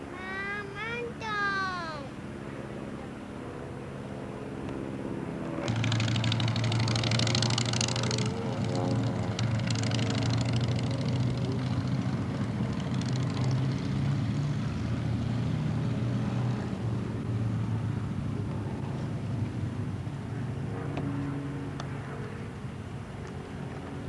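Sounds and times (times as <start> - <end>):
propeller airplane engine droning: 0.0 - 24.0.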